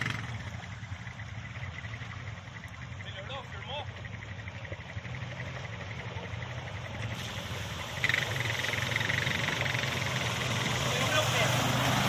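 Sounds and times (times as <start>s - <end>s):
quad bike engines running: 0.0s - 12.0s
water splashing under wheels: 0.0s - 12.0s.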